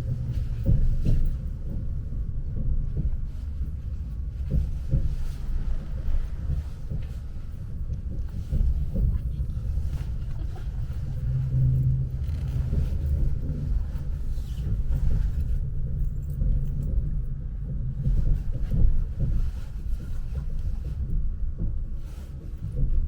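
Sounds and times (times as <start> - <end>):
electric train rumbling on track: 0.0 - 23.0.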